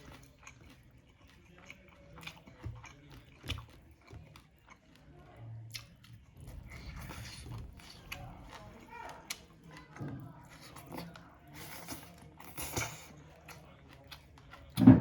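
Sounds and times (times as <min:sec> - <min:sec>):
biting and chewing food: 0:00.0 - 0:15.0.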